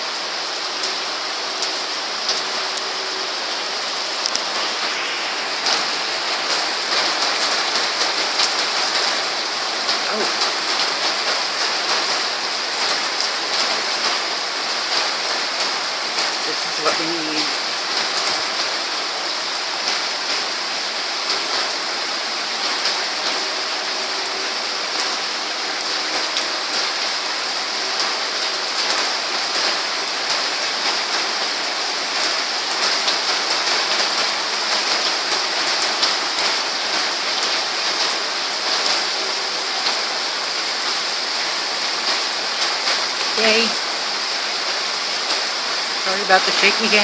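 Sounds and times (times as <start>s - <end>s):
raindrops striking close by: 0.0s - 47.0s
steady rain falling: 0.0s - 47.0s.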